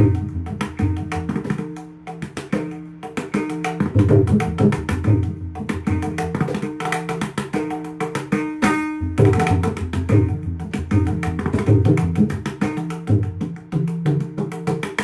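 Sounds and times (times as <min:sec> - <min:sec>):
hand drum strokes: 0:00.0 - 0:15.0.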